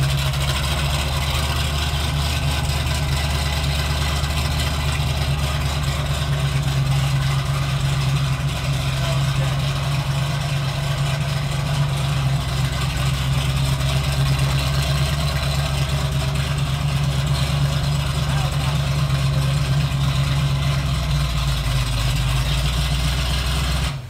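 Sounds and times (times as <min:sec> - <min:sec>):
car engine idling loudly: 0:00.0 - 0:24.0.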